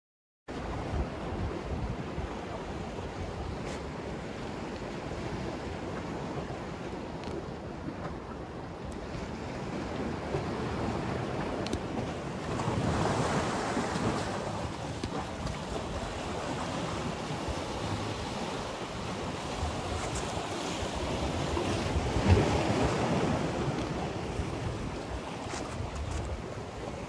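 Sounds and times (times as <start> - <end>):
sea waves washing against breakwater: 0.5 - 27.0
wind buffeting microphone: 0.6 - 27.0.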